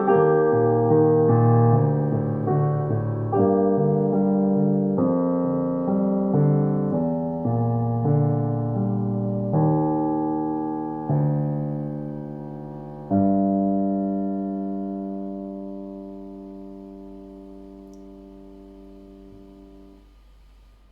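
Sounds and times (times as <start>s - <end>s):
piano chords: 0.0s - 20.2s.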